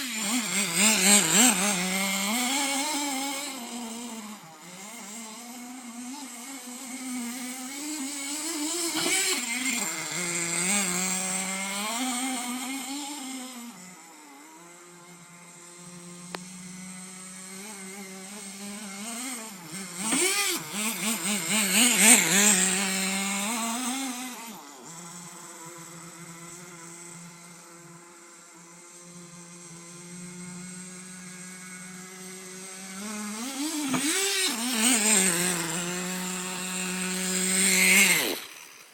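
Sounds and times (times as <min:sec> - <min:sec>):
model engine idling and revving: 0:00.0 - 0:38.9.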